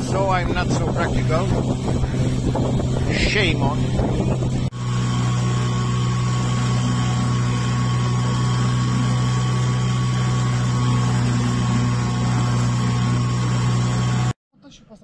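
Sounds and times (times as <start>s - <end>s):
outboard motor running: 0.0s - 14.4s.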